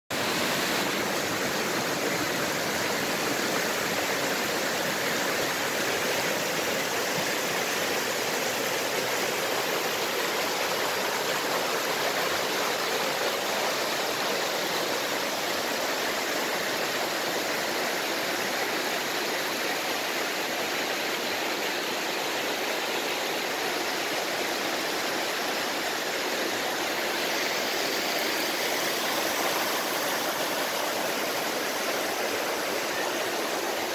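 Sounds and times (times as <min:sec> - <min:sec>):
river rushing over rocks: 0:00.1 - 0:33.9.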